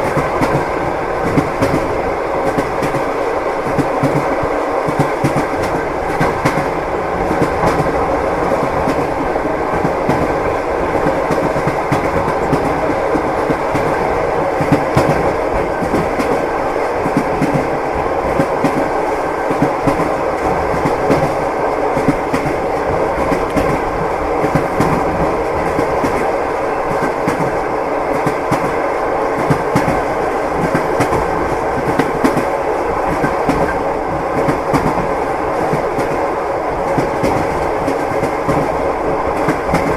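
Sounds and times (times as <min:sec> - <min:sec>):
clickety-clack of rail joints: 0:00.0 - 0:39.9
train wheels rumbling on rails: 0:00.0 - 0:39.9.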